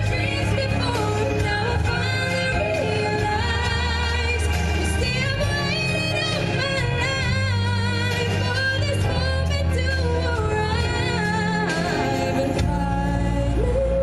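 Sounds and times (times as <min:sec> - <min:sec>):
steady bass line: 0:00.0 - 0:14.0
woman singing into microphone: 0:00.0 - 0:14.0.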